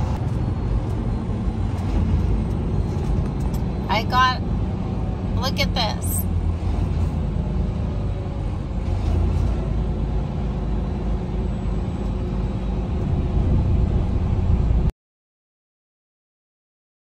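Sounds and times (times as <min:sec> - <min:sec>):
truck engine and road rumble: 0:00.0 - 0:14.9.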